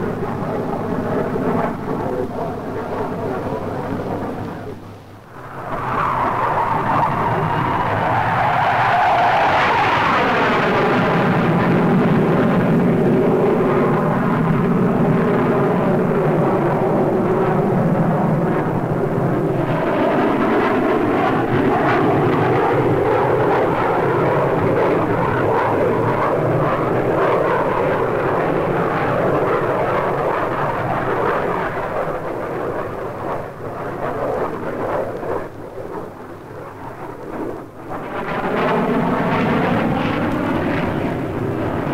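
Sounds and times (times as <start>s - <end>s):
jet fighter flying past: 0.0s - 41.9s.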